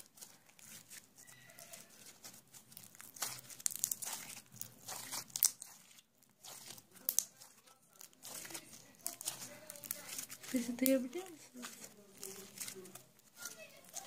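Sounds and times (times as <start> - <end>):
slime crackling and popping: 0.0 - 14.0.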